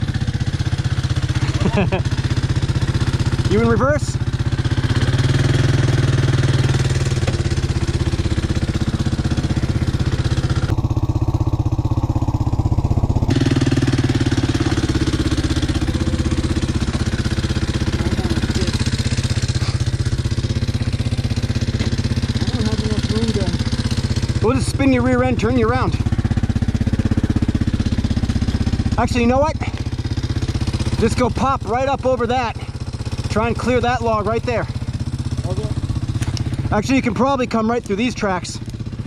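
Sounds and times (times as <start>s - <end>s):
atv engine idling: 0.0s - 39.0s.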